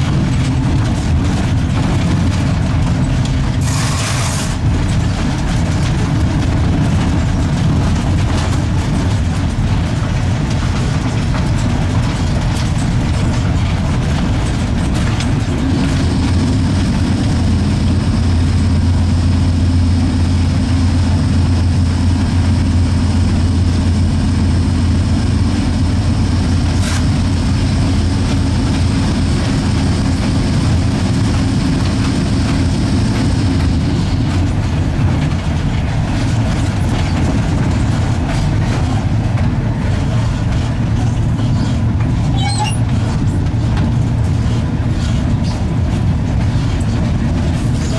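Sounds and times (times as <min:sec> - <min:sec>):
locomotive rumble and hum: 0:00.0 - 0:47.9.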